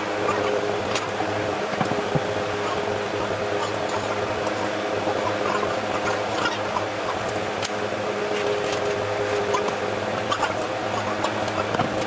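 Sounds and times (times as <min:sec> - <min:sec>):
machine humming and hissing: 0:00.0 - 0:12.0.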